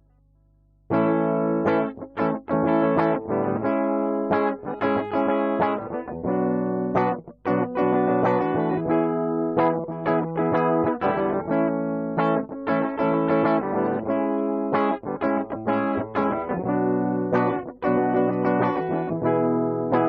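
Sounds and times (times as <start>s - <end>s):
guitar strumming chords: 0.9s - 20.0s.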